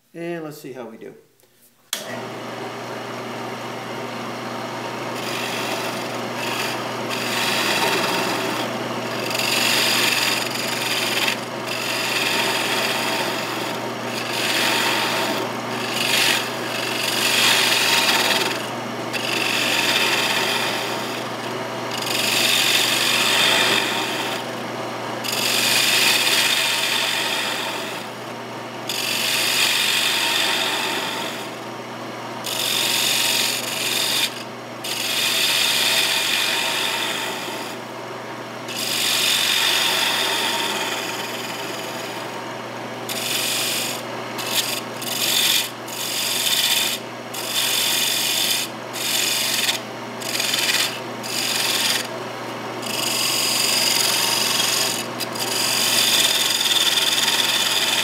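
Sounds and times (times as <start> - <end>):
wood lathe humming: 1.9 - 58.0
lathe tool cutting wood: 2.0 - 58.0.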